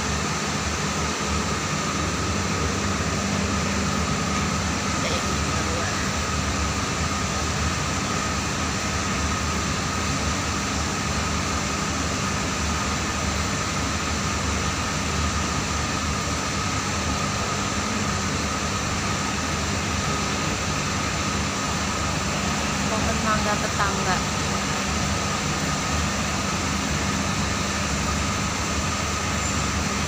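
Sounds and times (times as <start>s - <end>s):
machine hum with hiss and whine: 0.0s - 30.0s.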